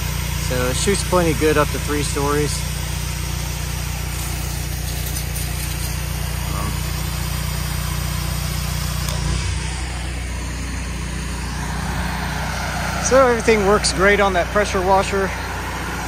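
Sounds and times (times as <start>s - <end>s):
engine and pump drone: 0.0s - 16.0s
pressure washer jet hissing: 0.0s - 16.0s.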